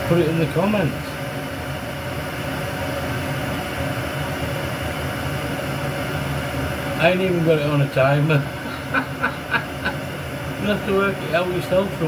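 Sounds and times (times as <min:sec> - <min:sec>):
gas stove burner hissing: 0:00.0 - 0:12.0.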